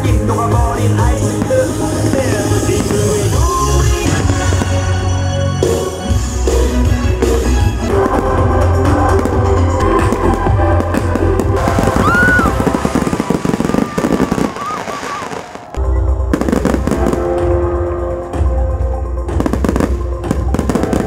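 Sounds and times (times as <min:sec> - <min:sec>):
fireworks crackling and popping: 0:00.0 - 0:06.0, 0:07.7 - 0:17.5, 0:19.4 - 0:21.0
loud music with heavy bass: 0:00.0 - 0:21.0.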